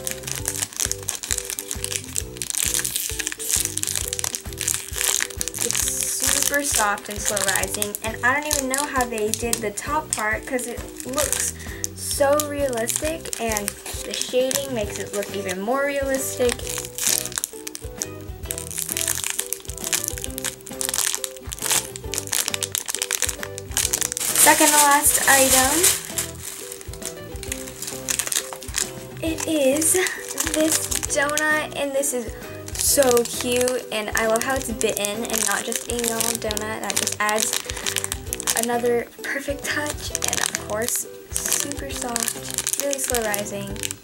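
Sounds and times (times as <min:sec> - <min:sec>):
background music with steady beat: 0:00.0 - 0:44.0
plastic wrapper crinkling: 0:00.0 - 0:44.0.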